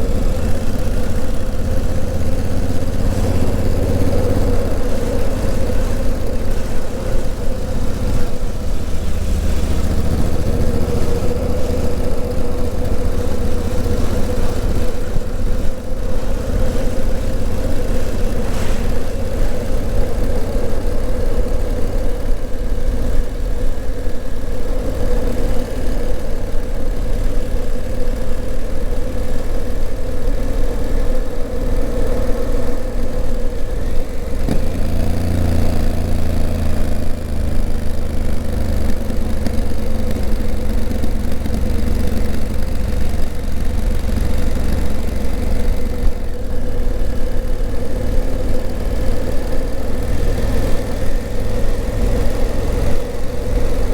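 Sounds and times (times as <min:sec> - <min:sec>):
motorcycle engine running steadily: 0:00.0 - 0:53.9.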